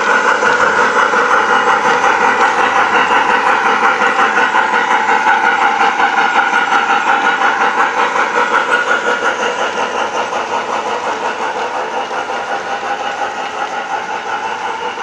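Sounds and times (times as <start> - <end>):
model trains rolling on track: 0.0 - 15.0.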